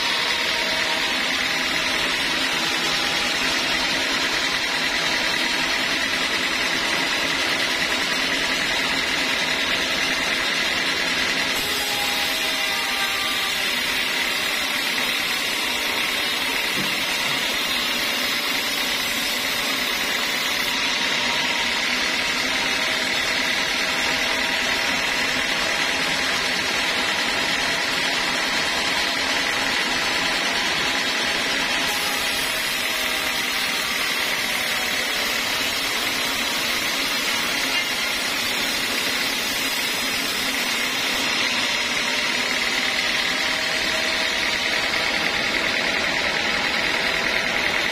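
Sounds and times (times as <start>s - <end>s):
band saw whining: 0.0s - 47.9s.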